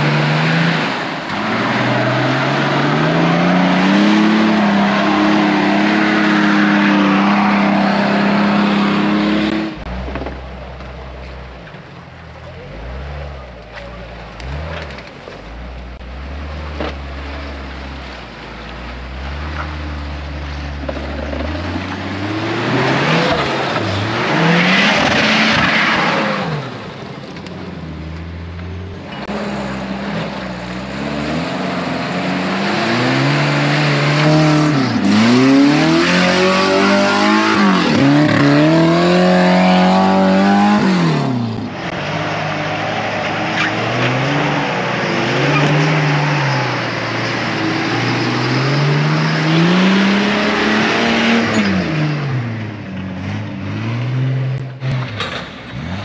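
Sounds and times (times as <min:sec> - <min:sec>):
off-road engines revving: 0:00.0 - 0:56.0.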